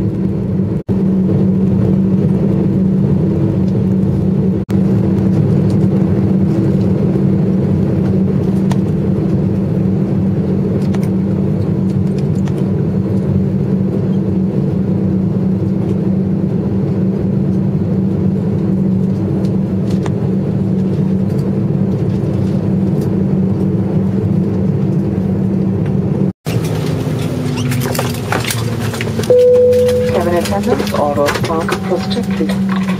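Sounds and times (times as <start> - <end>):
cabin air system drone: 0.0 - 32.9
jet engines idling: 0.0 - 32.9
low hum tones: 0.0 - 32.9.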